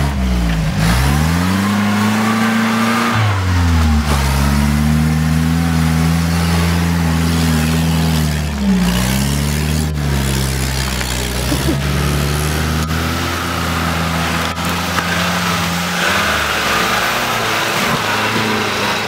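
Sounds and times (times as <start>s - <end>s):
van engine revving hard: 0.0s - 19.0s
wheels spinning in mud: 0.0s - 19.0s.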